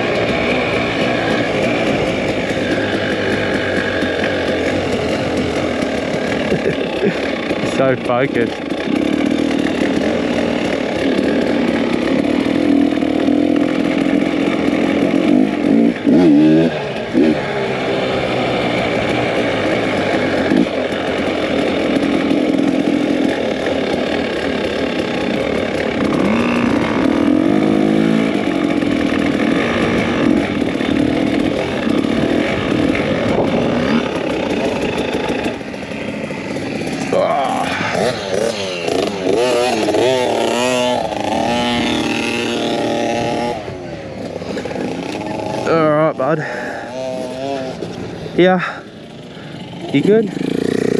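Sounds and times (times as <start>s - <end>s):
two-stroke dirt bike engine: 0.0s - 50.9s.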